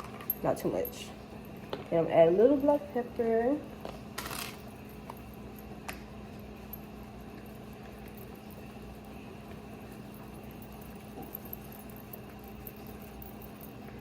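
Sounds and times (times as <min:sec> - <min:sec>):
faint kitchen background noise: 0:00.0 - 0:14.0
steady low hum: 0:00.0 - 0:14.0.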